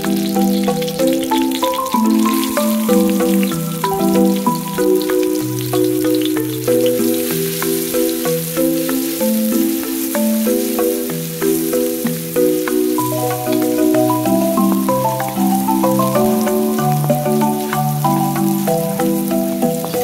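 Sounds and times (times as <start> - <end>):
garlic sizzling in hot oil: 0.0 - 20.0
instrumental background music: 0.0 - 20.0.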